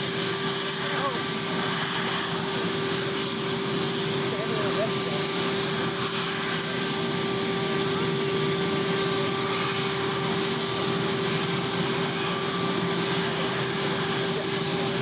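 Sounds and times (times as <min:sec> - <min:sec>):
helicopter turbine engines whining: 0:00.0 - 0:15.0.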